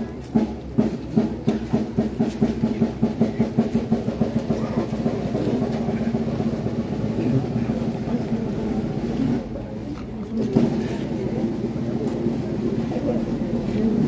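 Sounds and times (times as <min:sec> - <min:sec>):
drum roll: 0:00.0 - 0:09.6, 0:10.4 - 0:14.0.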